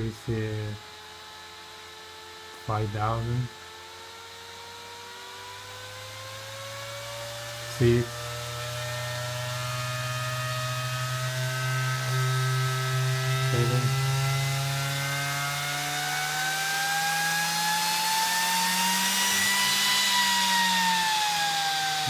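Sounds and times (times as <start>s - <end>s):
server fan whirring whine: 0.0s - 22.0s.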